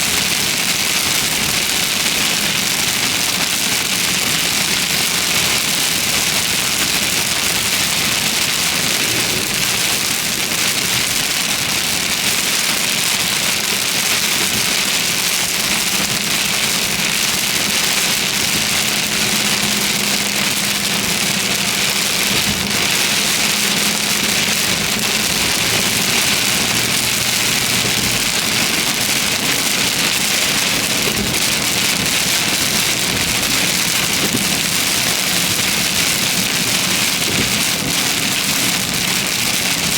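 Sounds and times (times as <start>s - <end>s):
heavy rain on car: 0.0s - 39.9s
faint car hum: 0.1s - 39.9s.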